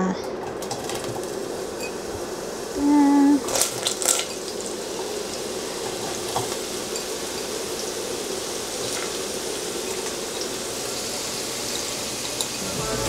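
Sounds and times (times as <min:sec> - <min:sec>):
food sizzling in oil: 0:00.6 - 0:13.0.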